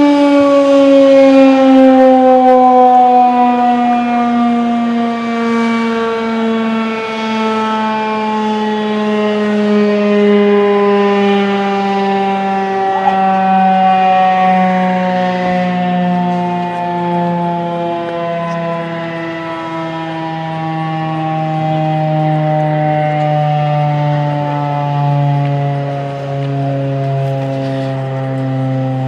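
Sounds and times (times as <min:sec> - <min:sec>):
warning siren falling pitch: 0:00.0 - 0:29.0.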